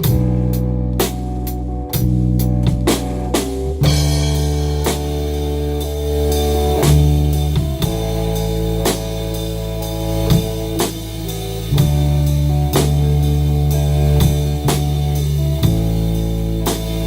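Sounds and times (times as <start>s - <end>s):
band playing: 0.0s - 17.0s
drum and cymbal hits: 0.0s - 17.0s.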